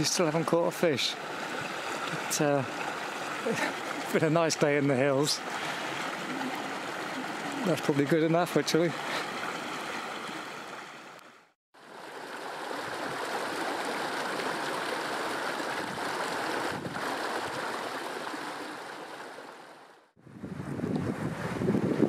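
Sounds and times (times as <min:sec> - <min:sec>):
stream flowing over stones: 0:00.0 - 0:20.1.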